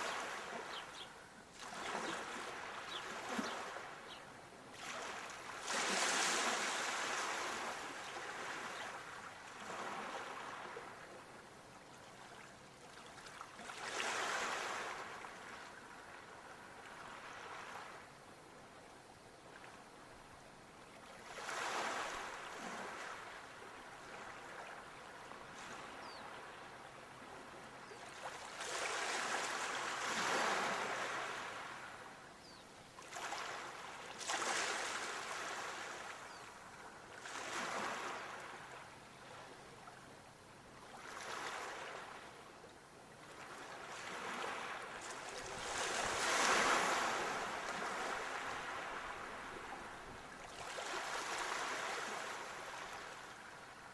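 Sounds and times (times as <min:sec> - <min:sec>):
sea waves breaking on shore: 0:00.0 - 0:11.2, 0:12.3 - 0:18.1, 0:21.1 - 0:32.2, 0:33.0 - 0:40.0, 0:40.8 - 0:42.4, 0:43.2 - 0:53.9.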